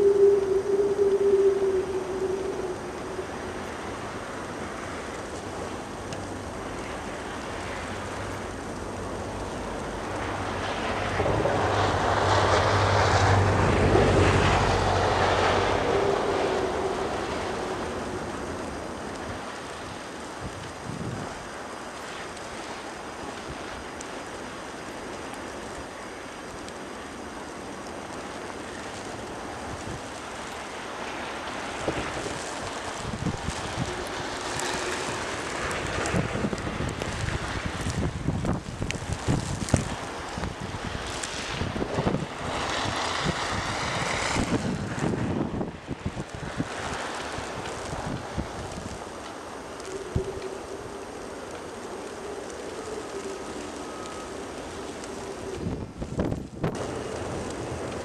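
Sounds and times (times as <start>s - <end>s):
blizzard wind rushing: 0.0s - 58.0s
vehicle passing with hum and hiss: 0.0s - 58.0s
wind gusts buffeting microphone: 0.0s - 58.0s.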